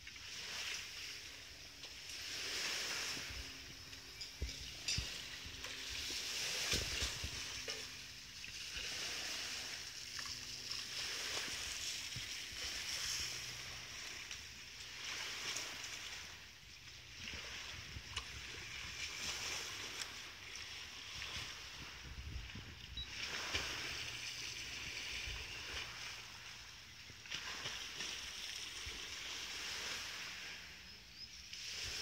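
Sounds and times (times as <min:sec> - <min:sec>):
water lapping at shore: 0:00.0 - 0:32.0.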